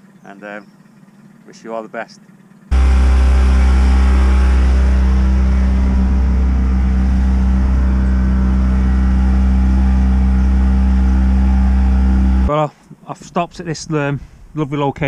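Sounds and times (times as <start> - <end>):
boat engine droning: 0.0 - 12.5.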